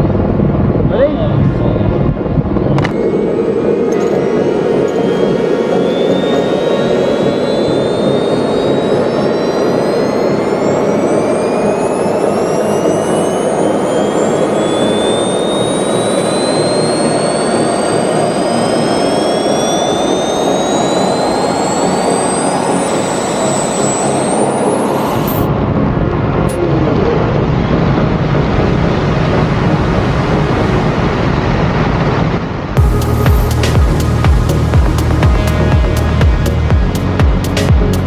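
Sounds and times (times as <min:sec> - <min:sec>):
turbine whines: 0:00.0 - 0:38.0
jet engine roar: 0:02.0 - 0:32.8.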